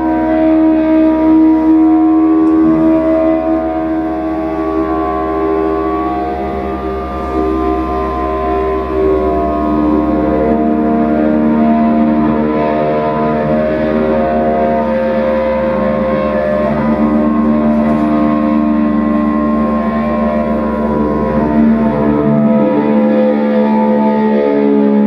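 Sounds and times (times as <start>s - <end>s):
electric guitar drone: 0.0s - 25.0s.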